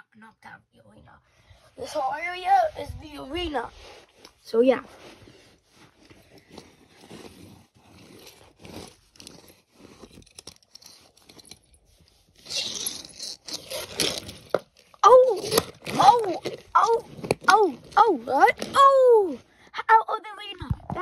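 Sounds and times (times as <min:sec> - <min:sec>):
toy cars scraping over a rug: 0:01.8 - 0:19.0.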